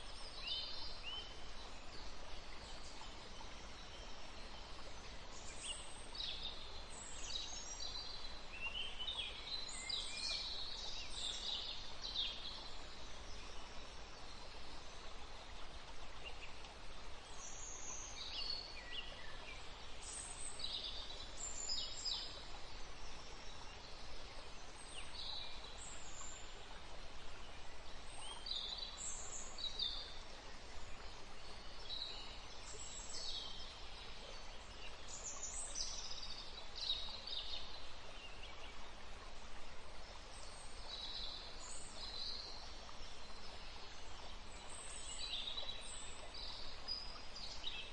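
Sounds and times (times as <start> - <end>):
steady forest hiss: 0.0 - 47.9.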